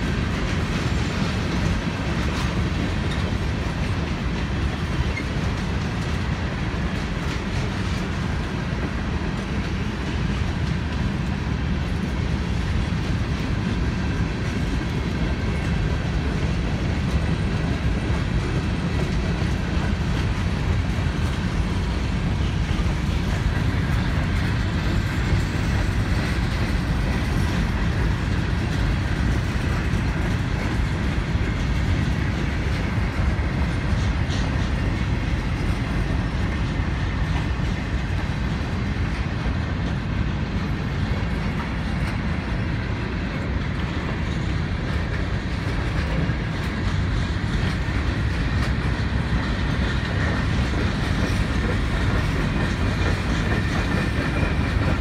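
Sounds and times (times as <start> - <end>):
steel wheels rumbling on rail: 0.0 - 55.0
wheels clacking over rail joints: 0.0 - 55.0.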